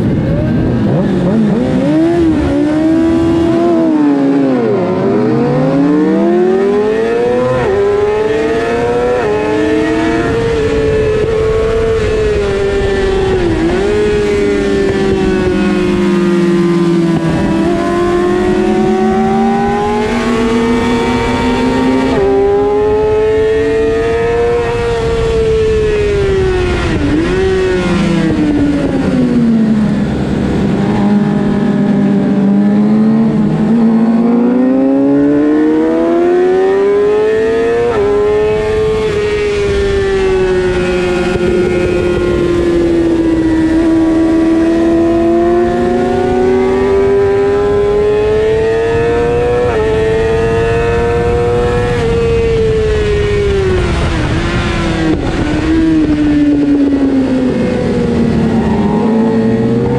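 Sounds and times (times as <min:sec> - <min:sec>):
motorcycle engine revving: 0:00.0 - 0:59.9
wind rush: 0:06.1 - 0:59.9.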